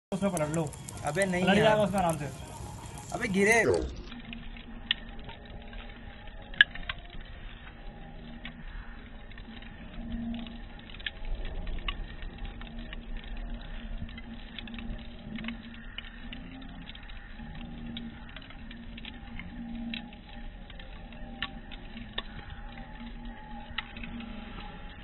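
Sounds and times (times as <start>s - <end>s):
wood fire crackling and popping: 0.1s - 25.0s.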